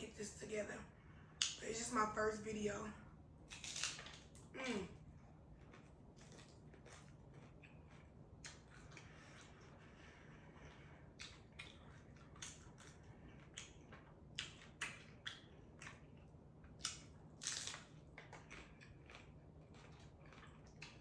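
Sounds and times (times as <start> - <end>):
faint low hum: 0.0 - 21.0
crunching while eating: 3.4 - 21.0.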